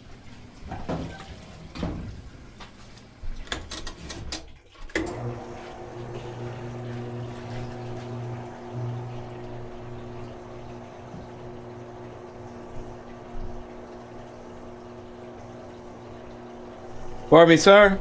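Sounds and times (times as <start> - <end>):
running water: 0.0 - 18.0
washing machine drain pump humming: 0.0 - 18.0.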